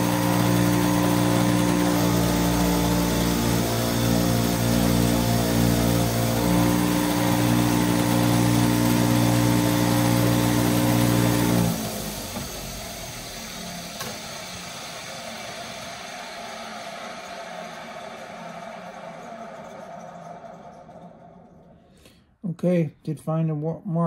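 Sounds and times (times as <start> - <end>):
motor hum: 0.0 - 21.9.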